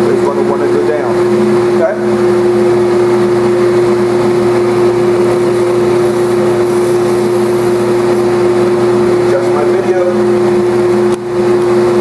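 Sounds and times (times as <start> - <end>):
sander running: 1.1 - 12.0.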